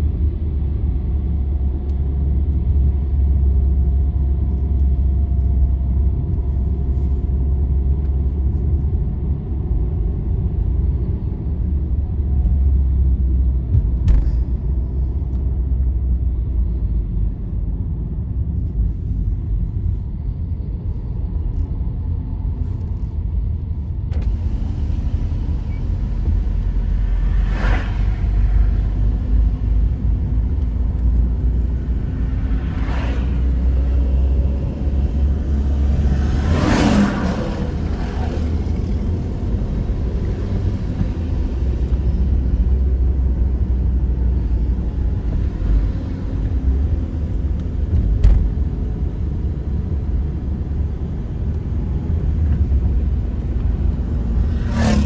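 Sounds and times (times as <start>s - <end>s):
vehicle rumbling on highway: 0.0s - 55.0s.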